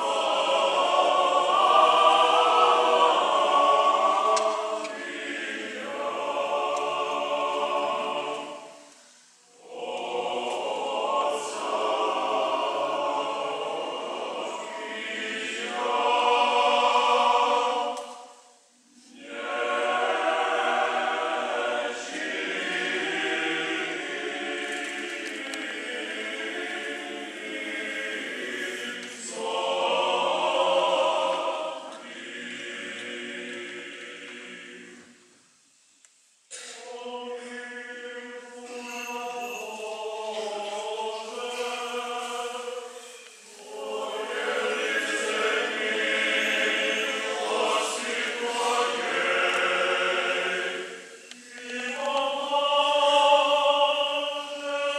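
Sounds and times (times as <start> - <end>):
choir chanting unaccompanied: 0.0 - 35.4, 36.5 - 54.9.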